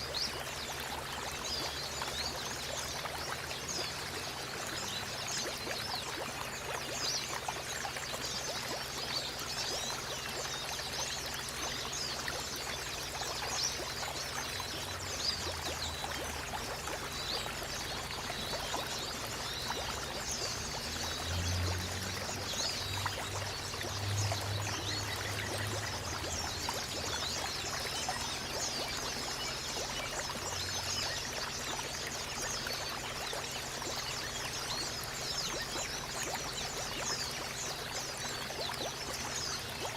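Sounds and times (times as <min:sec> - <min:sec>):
songbirds chirping: 0:00.0 - 0:39.9
water trickling and splashing: 0:00.0 - 0:39.9.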